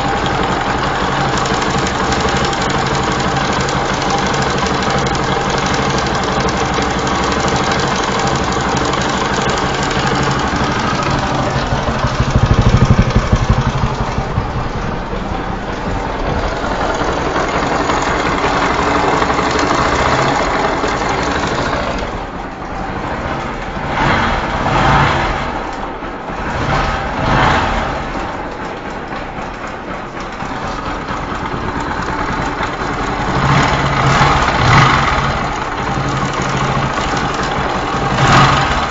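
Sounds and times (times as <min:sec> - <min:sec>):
loose timing chain rattling: 0:00.0 - 0:23.5, 0:28.1 - 0:38.9
motorcycle engine running: 0:00.0 - 0:38.9.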